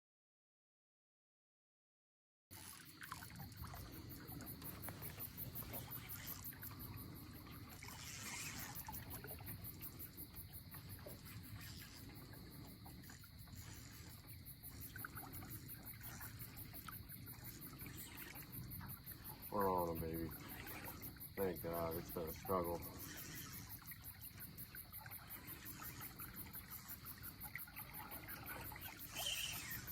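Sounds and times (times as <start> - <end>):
river water murmur: 2.6 - 29.9.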